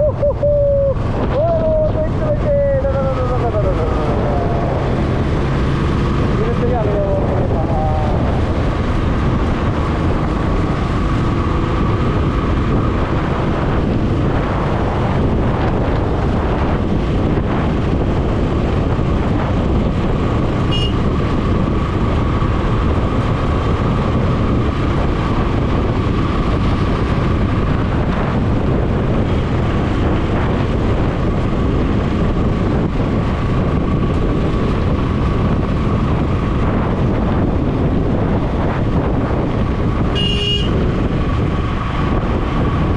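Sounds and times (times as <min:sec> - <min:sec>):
motorcycle engine running: 0:00.0 - 0:42.9
wind buffeting microphone: 0:00.0 - 0:42.9.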